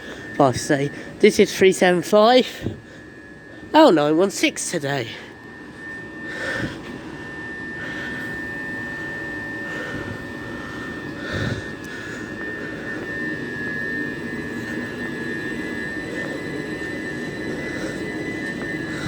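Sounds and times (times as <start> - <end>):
electric train whine: 0.0 - 19.0
train low rumble: 0.0 - 19.0.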